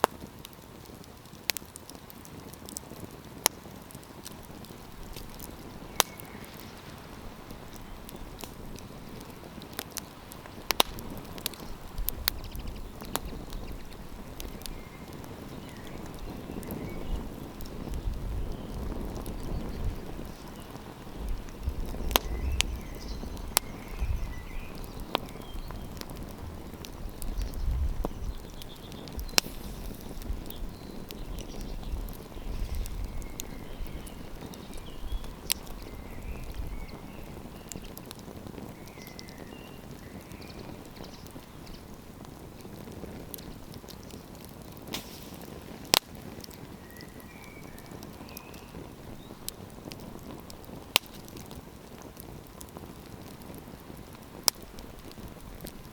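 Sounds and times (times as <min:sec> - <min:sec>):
campfire crackling: 0:00.0 - 0:55.9
wind rumble on microphone: 0:02.2 - 0:55.9.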